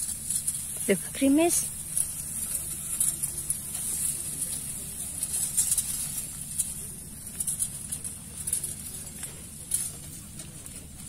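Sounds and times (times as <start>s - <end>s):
rice plants rustling: 0.0s - 11.0s.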